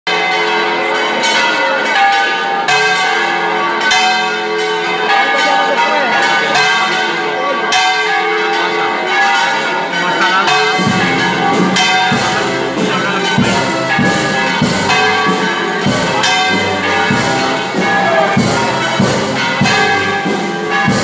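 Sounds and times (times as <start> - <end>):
church bells pealing: 0.1 - 21.0.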